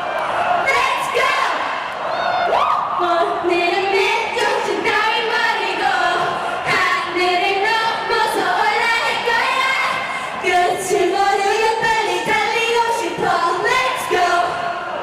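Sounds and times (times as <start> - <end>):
crowd singing a cappella: 0.0 - 15.0.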